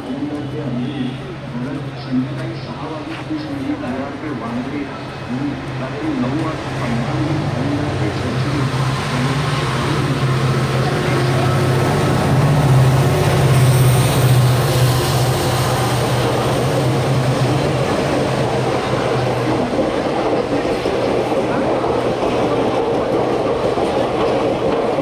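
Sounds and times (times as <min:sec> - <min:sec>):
locomotive engine hum: 0:00.0 - 0:25.0
train coaches rumbling past: 0:00.0 - 0:25.0.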